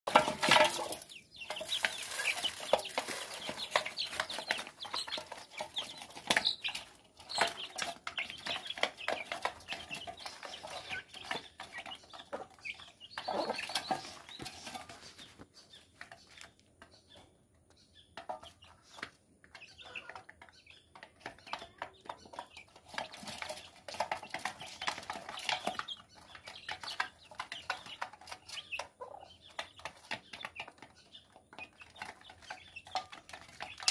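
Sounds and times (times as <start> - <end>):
hen clucking: 0.1 - 15.5, 18.3 - 24.2, 24.8 - 33.9
beaks pecking grain in bowl: 0.1 - 33.9
chicks peeping: 0.1 - 33.9.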